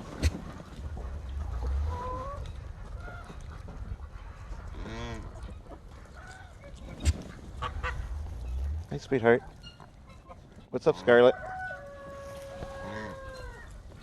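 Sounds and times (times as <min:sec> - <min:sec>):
poultry calling: 0:00.0 - 0:14.0.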